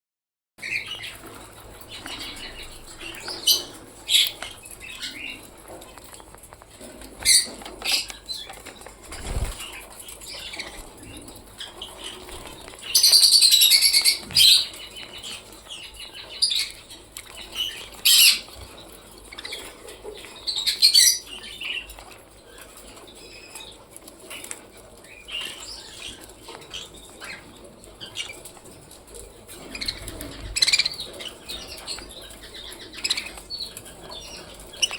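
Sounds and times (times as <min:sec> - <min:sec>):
budgerigars chirping and chattering: 0:00.6 - 0:34.9.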